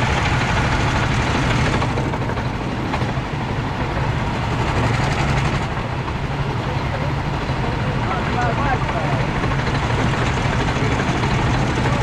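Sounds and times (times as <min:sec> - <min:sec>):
go-kart engines idling: 0:00.0 - 0:12.0.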